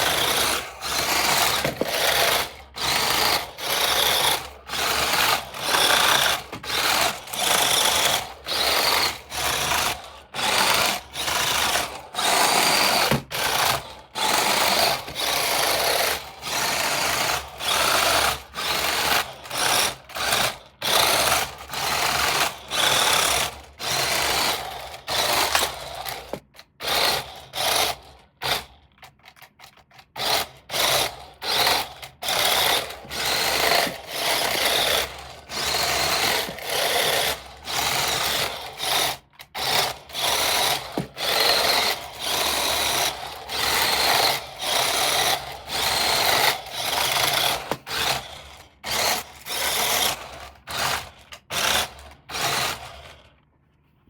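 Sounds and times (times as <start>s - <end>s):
small electric motor whirring: 0.0s - 53.3s.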